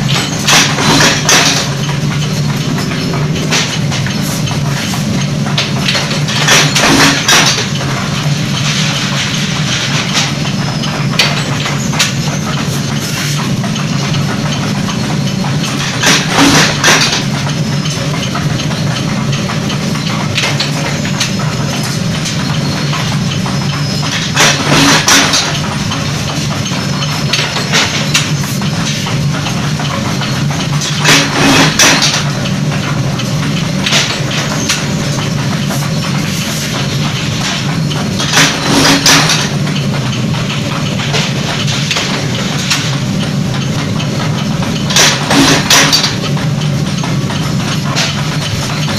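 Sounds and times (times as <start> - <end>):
power press machine hum: 0.0 - 48.9.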